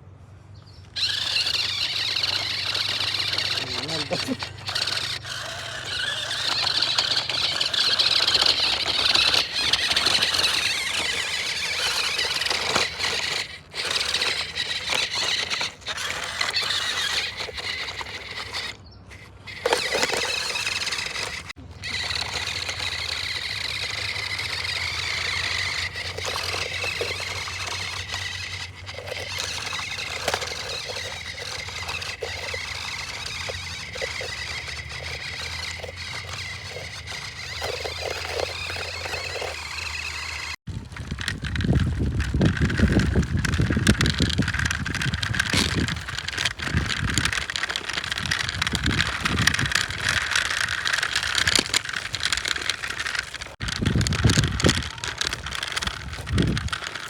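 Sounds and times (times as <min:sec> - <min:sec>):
toy electric motor whining: 0:00.8 - 0:57.0.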